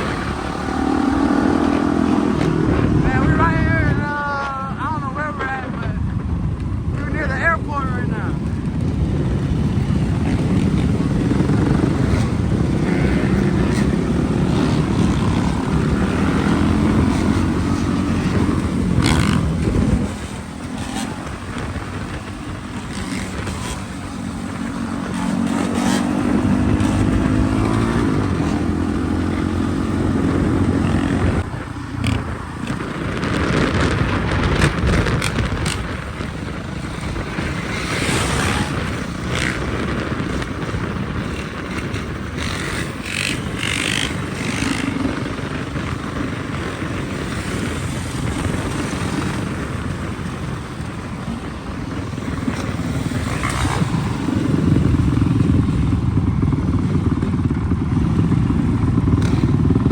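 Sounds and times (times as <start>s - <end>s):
dirt bike engine revving: 0.0s - 4.1s, 7.0s - 59.9s.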